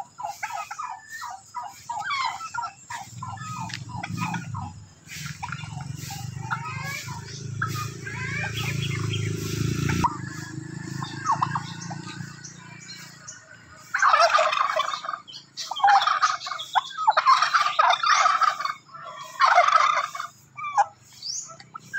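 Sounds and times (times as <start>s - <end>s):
turkeys gobbling: 0.0s - 21.9s.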